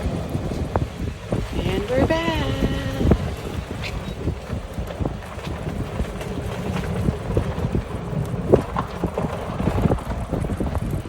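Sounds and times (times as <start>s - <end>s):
steady low rumble: 0.0s - 11.0s
wind rumbling on microphone: 0.0s - 11.0s.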